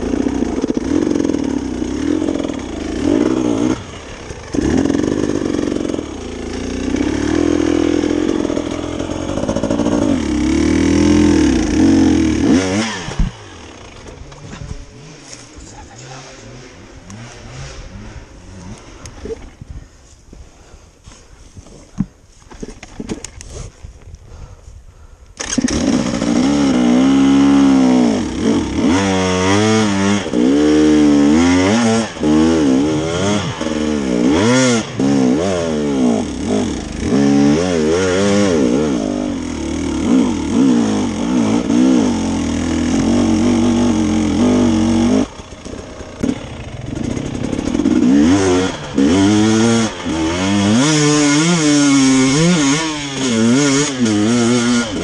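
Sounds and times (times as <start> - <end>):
motorcycle engine revving hard: 0.0 - 14.0, 14.7 - 19.1, 25.4 - 55.0.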